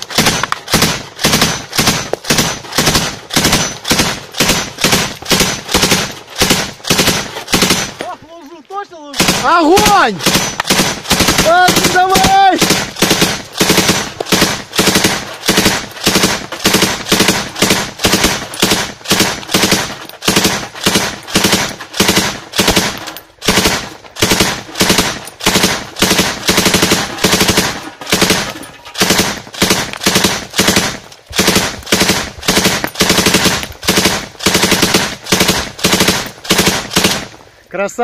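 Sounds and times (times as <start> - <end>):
machine gun firing: 0.0 - 8.0, 9.1 - 37.4.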